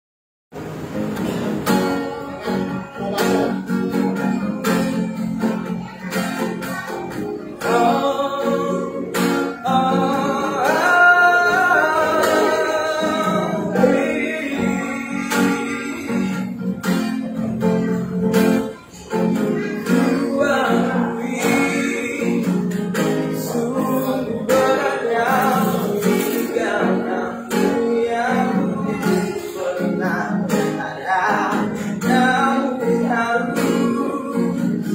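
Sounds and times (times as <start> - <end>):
acoustic guitar strumming: 0.6 - 34.9
man singing: 2.2 - 34.9.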